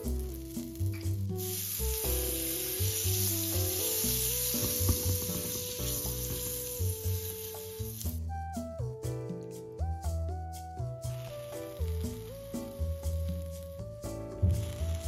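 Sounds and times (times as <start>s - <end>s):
butter sizzling in a pan: 0.0s - 8.2s, 11.1s - 15.0s.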